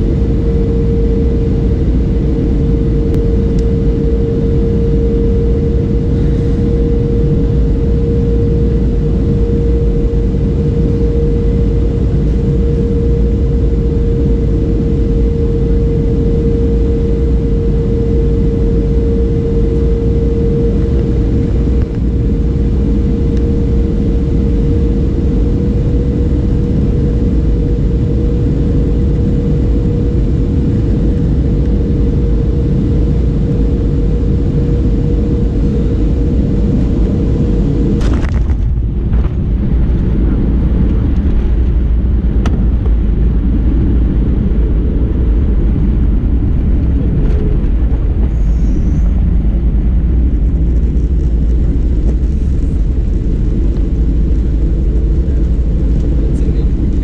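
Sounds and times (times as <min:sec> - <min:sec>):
airplane cabin engine rumble: 0:00.0 - 0:57.0
mid-pitched drone: 0:00.0 - 0:57.0.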